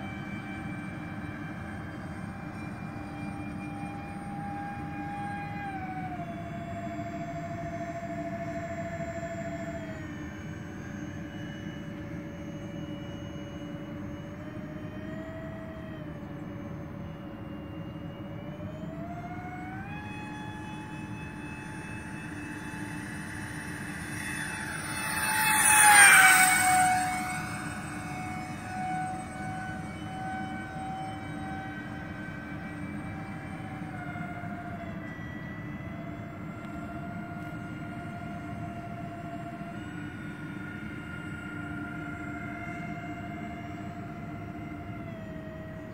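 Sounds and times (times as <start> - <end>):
electric ducted fans whining: 0.0 - 45.9.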